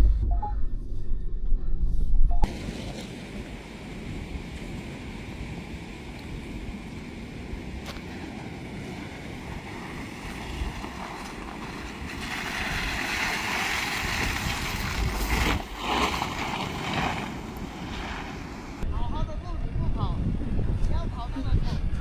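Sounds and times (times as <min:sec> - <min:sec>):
vehicle and tyres rumbling: 0:00.0 - 0:18.9.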